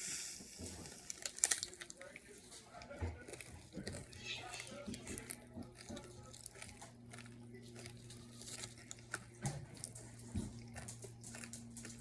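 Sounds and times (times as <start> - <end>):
popping candy crackling: 0.7 - 12.0.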